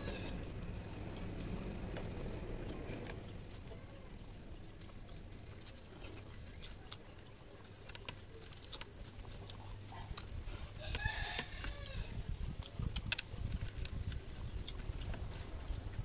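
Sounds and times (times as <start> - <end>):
chewing: 0.0 - 16.0
eating by hand clicks and smacks: 0.5 - 16.0.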